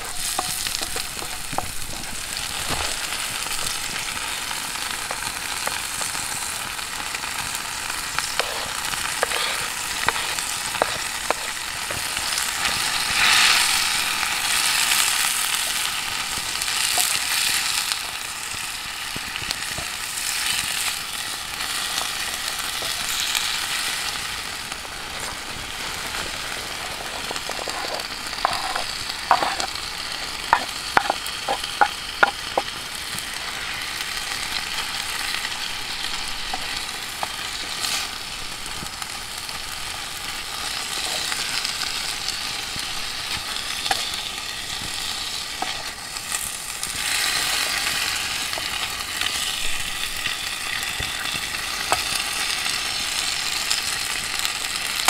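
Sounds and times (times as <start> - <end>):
bacon sizzling in a frying pan: 0.0 - 55.0.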